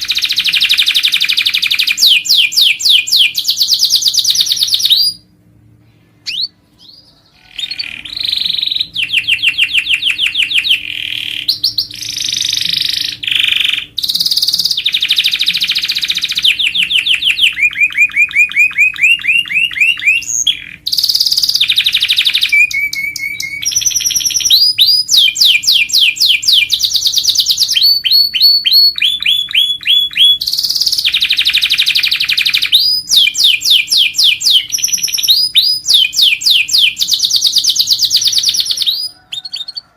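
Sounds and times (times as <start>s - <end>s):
canary singing trills: 0.0s - 5.3s, 5.9s - 39.9s.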